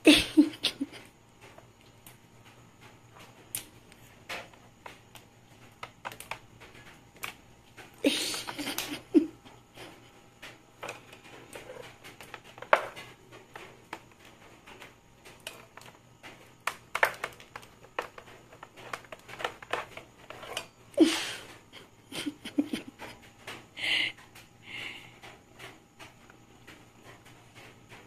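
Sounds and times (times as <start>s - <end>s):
paws tapping on tiled floor: 0.4s - 28.0s.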